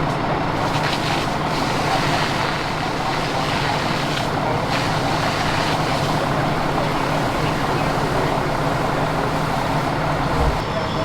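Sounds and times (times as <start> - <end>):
large vehicle engine idling: 0.0 - 10.8
constant even noise: 0.0 - 10.9.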